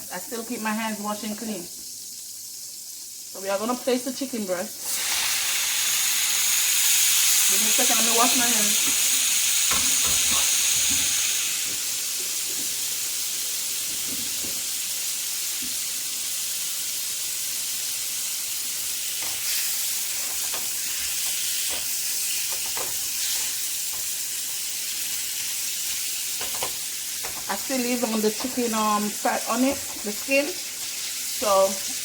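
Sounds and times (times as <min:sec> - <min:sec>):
chicken sizzling in a frying pan: 0:00.0 - 0:32.0.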